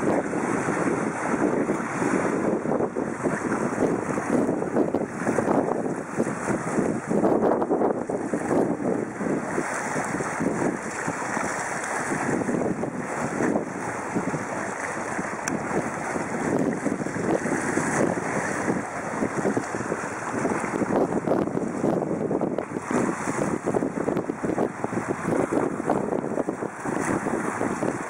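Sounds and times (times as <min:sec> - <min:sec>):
choppy sea washing: 0:00.0 - 0:28.0
wind buffeting microphone: 0:00.0 - 0:28.0.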